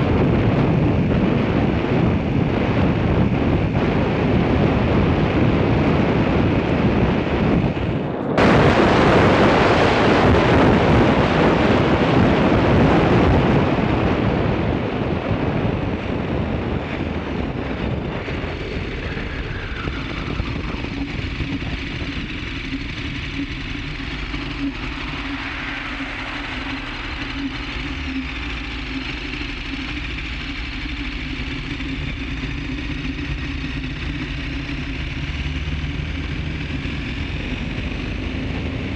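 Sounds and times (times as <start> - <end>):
steady engine hum: 0.0 - 38.9
wind rushing over microphone: 0.0 - 38.9.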